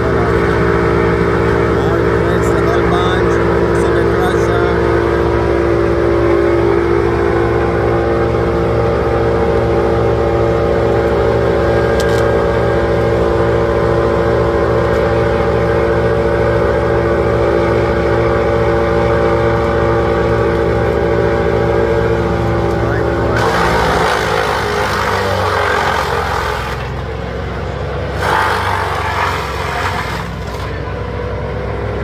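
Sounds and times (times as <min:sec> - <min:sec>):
large engine droning: 0:00.0 - 0:32.0.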